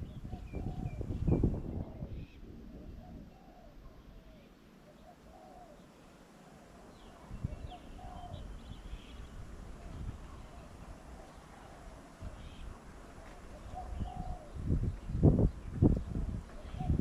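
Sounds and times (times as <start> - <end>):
doves cooing: 0.0 - 14.7, 16.0 - 17.0.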